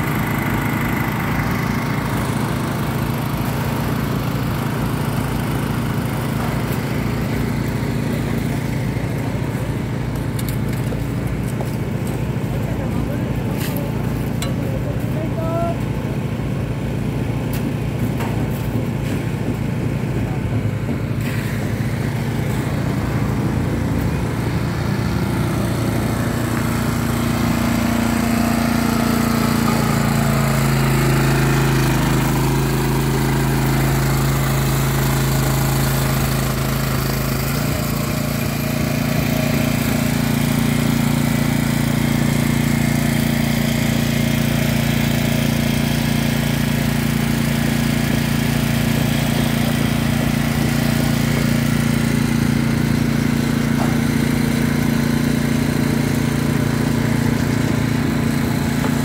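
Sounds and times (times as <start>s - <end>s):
small gasoline engine running: 0.0s - 59.0s.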